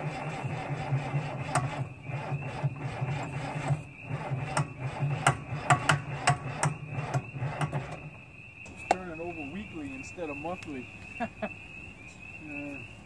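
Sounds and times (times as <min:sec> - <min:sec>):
diesel engine cranking: 0:00.0 - 0:11.0.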